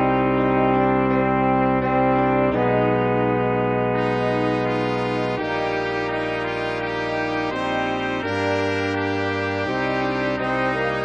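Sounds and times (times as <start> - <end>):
concert band sustained chords: 0.0 - 11.0.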